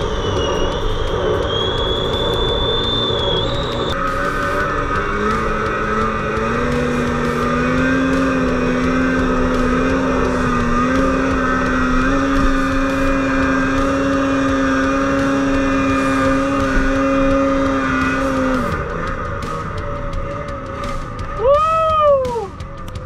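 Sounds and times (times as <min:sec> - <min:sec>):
snowmobile engine at high revs: 0:00.0 - 0:23.0.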